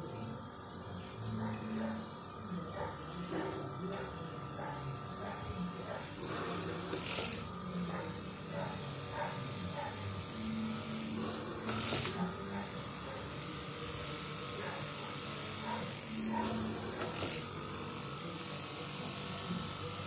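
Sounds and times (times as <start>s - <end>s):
small electric tool buzzing: 0.0s - 20.0s.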